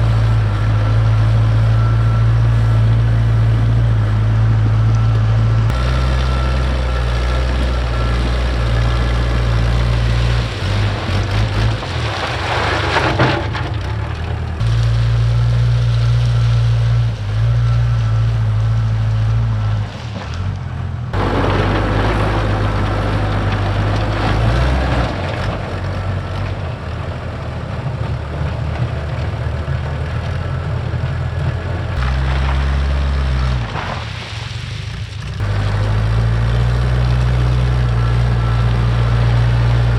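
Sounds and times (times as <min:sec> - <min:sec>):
diesel engine under load: 0:00.0 - 0:39.9
gravel rushing and crunching: 0:00.0 - 0:39.9.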